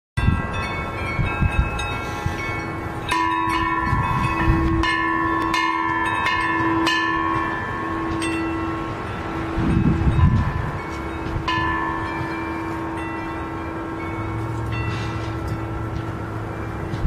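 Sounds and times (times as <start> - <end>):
steel bell ringing when struck: 0.2 - 17.0.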